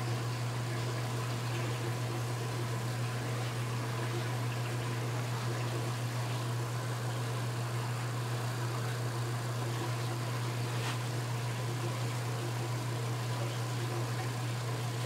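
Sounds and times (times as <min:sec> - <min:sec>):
fish tank water and pumps hissing: 0:00.0 - 0:15.0.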